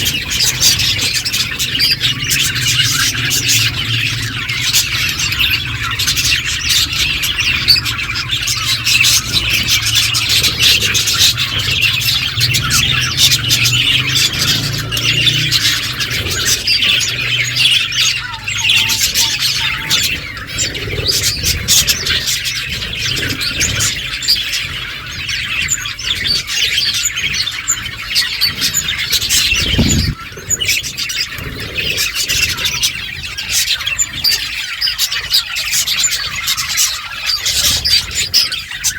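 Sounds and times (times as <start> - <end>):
budgerigars chirping: 0.0 - 38.9.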